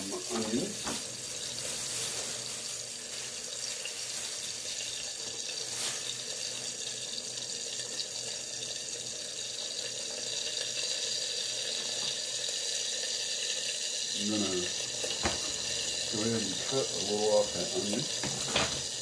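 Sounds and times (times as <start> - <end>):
bacon sizzling in skillet: 0.0 - 19.0.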